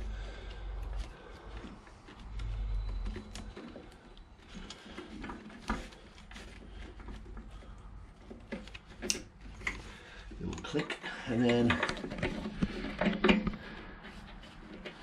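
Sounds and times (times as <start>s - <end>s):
rustling handling noise: 0.0s - 15.0s
small clicks and knocks: 0.4s - 15.0s.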